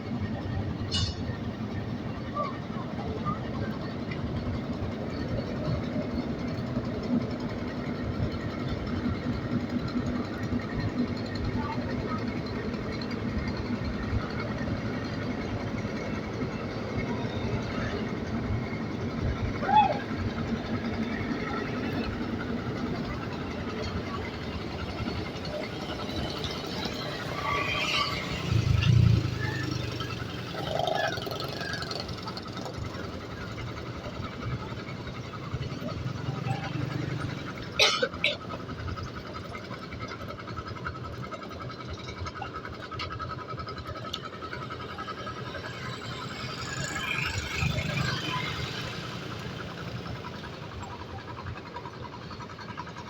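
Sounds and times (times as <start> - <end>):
engine droning: 0.0 - 53.0.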